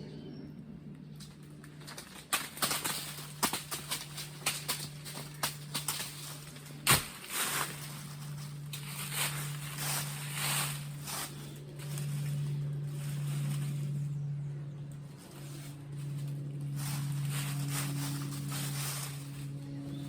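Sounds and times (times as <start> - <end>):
steady low hum: 0.0 - 20.0
leaves and branches rustling: 1.1 - 20.0.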